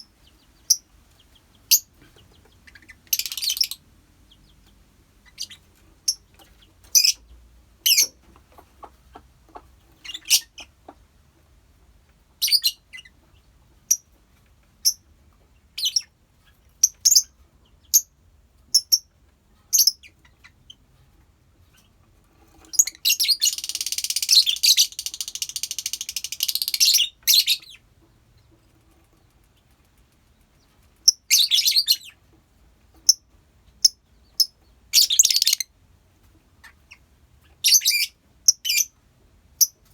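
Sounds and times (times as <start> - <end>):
lovebirds chirping: 0.0 - 11.0, 12.4 - 14.1, 14.8 - 18.1, 19.7 - 20.9, 22.6 - 32.3, 32.9 - 35.7, 36.6 - 39.0.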